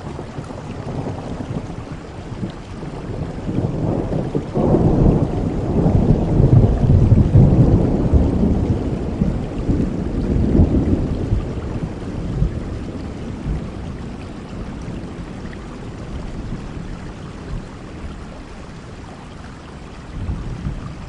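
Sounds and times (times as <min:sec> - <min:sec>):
thunder rumbling: 0:00.0 - 0:18.9, 0:20.1 - 0:21.0
heavy rain: 0:00.0 - 0:21.0.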